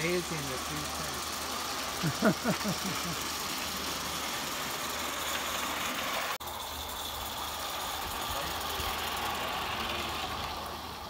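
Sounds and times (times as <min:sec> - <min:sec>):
steam and burner hissing: 0:00.0 - 0:11.0.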